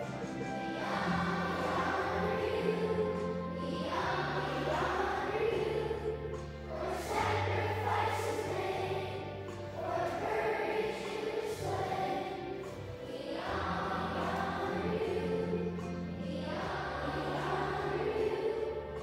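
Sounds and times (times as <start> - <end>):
children singing: 0.0 - 19.0.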